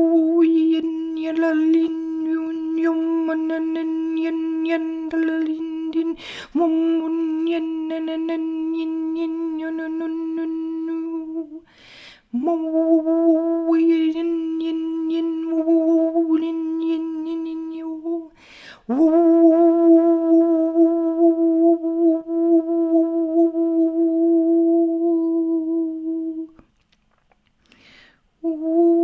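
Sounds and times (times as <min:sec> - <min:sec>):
woman toning a long note: 0:00.0 - 0:11.7, 0:12.3 - 0:26.6, 0:28.4 - 0:29.0.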